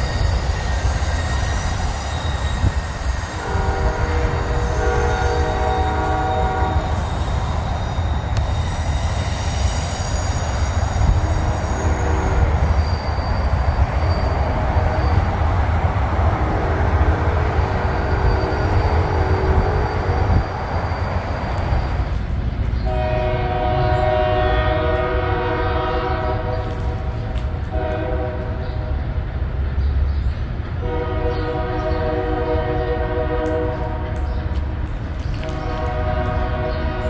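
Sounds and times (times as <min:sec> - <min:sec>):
distant train horn blasts: 0:02.4 - 0:22.1, 0:22.8 - 0:29.2, 0:30.8 - 0:37.0.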